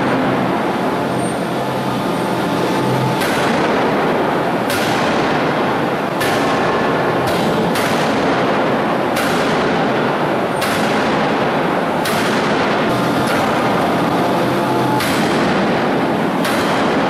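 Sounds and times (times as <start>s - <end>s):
loud shop noise: 0.0s - 17.0s
forging hammer striking steel: 3.1s - 17.0s.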